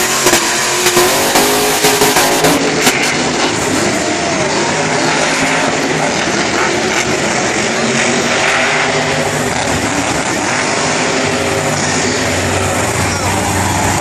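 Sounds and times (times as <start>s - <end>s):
truck engines running loudly: 0.0s - 14.0s.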